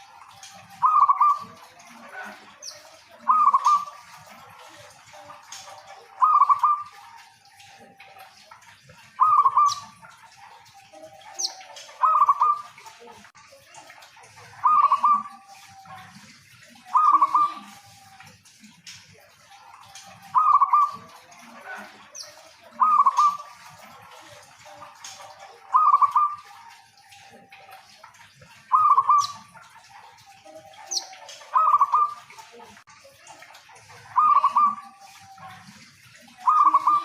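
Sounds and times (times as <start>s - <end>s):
dove cooing: 0.0s - 12.8s, 14.6s - 18.2s, 19.6s - 27.2s, 28.2s - 32.4s, 34.1s - 37.0s.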